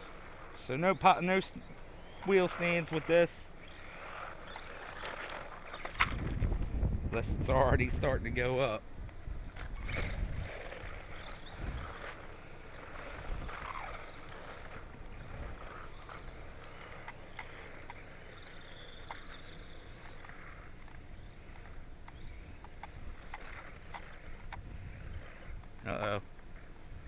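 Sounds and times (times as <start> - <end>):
toy truck motor and tyres hissing: 0.0 - 8.6, 9.4 - 27.0.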